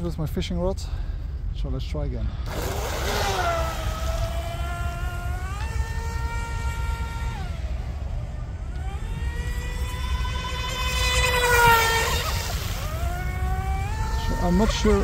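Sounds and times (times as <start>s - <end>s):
toy boat motor whine: 2.5s - 15.0s.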